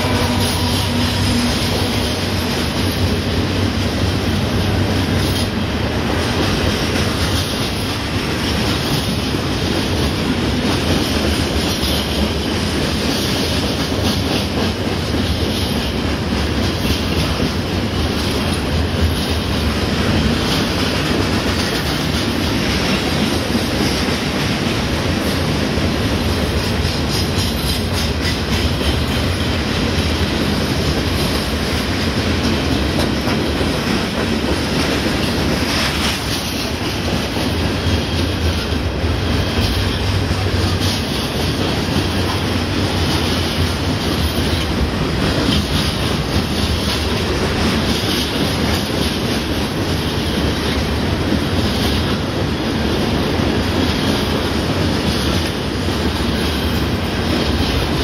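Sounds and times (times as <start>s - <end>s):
freight train wheels clacking on rails: 0.0s - 58.0s.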